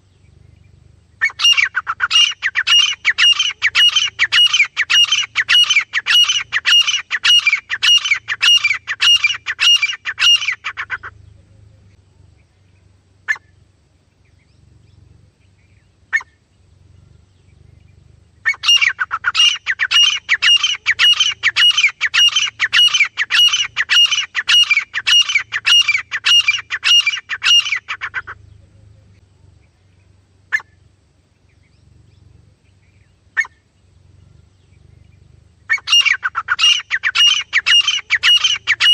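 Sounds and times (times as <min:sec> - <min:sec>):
francolin calling: 0:00.0 - 0:38.9.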